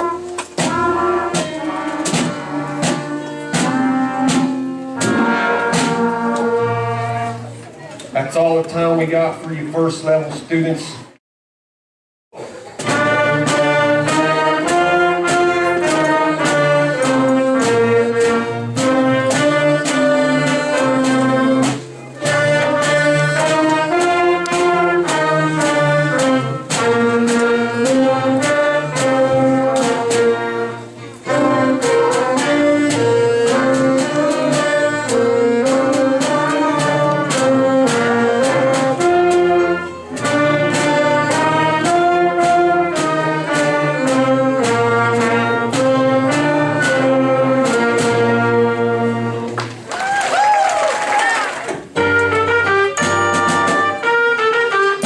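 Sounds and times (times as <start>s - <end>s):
wind band playing: 0.0s - 10.3s, 12.5s - 55.0s
drums: 0.0s - 11.2s, 12.3s - 55.0s.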